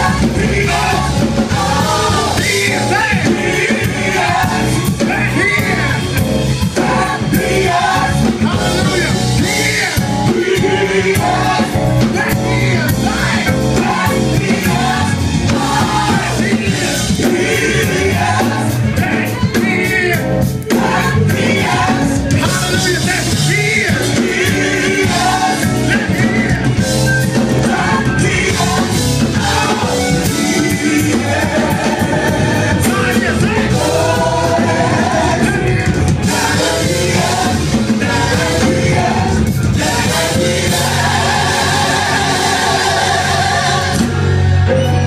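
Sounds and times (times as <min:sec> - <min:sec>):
gospel choir singing: 0:00.0 - 0:45.0
live band playing: 0:00.0 - 0:45.0.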